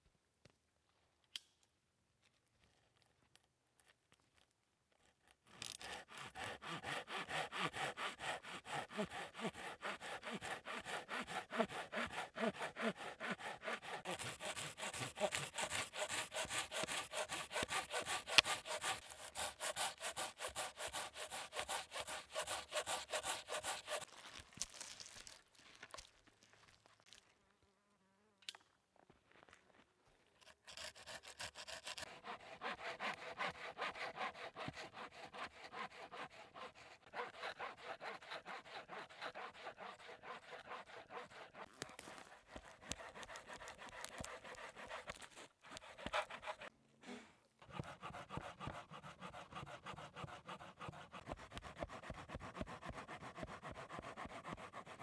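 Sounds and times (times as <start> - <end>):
hand saw cutting log: 5.0 - 24.4, 30.4 - 55.0.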